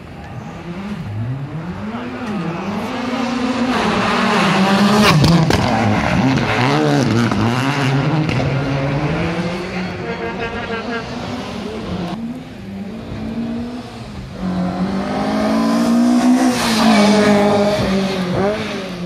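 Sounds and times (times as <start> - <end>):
rally car engine passing: 0.1 - 19.0.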